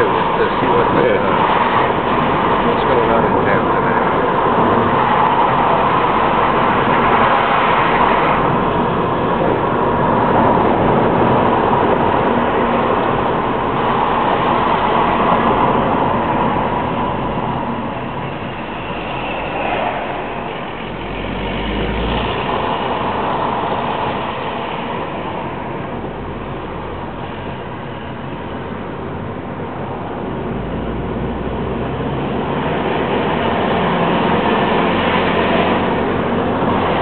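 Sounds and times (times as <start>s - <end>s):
car cabin road noise: 0.0s - 37.0s.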